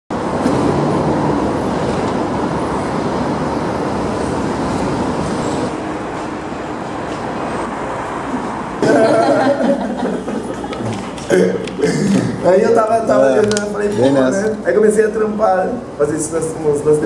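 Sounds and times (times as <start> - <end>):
road noise from passing vehicles: 0.1 - 17.0.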